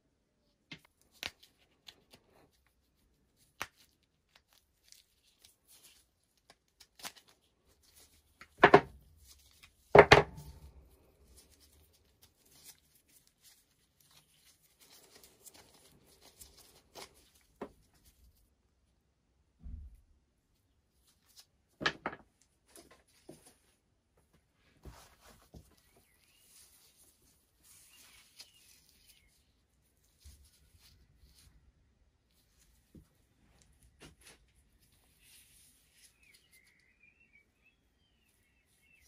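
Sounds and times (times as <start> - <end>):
strap rustling: 0.4 - 18.7, 20.6 - 39.0.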